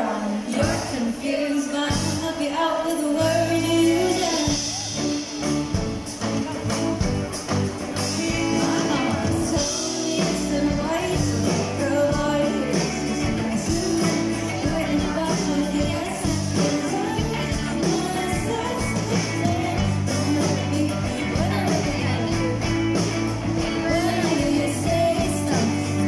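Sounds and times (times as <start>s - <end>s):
woman singing: 0.0s - 5.0s, 8.0s - 26.0s
live pop band playing: 0.0s - 26.0s.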